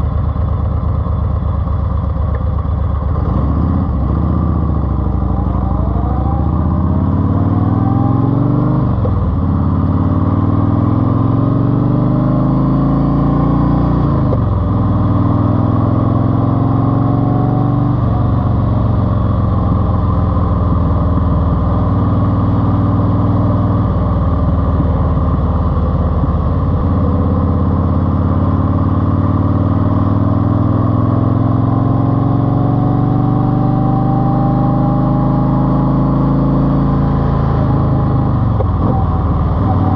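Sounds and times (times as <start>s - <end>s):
car engine accelerating through gears: 3.1s - 19.9s, 20.7s - 39.9s.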